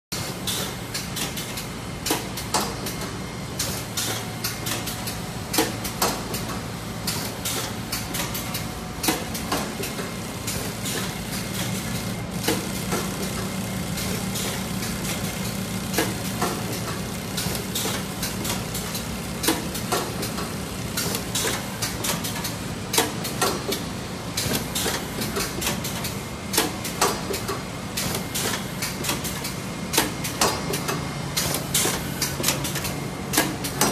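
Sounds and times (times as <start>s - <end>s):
machine clacks and knocks: 0.4s - 33.9s.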